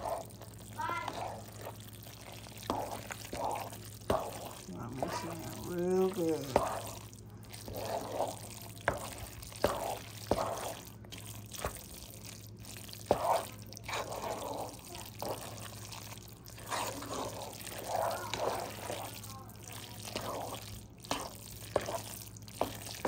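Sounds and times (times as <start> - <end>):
spoon stirring wet pasta: 0.0 - 23.0.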